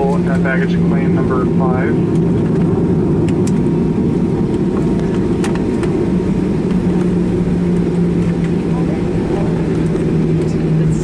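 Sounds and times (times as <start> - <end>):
aircraft cabin rumble: 0.0 - 11.0
jet engines idling hum: 0.0 - 11.0.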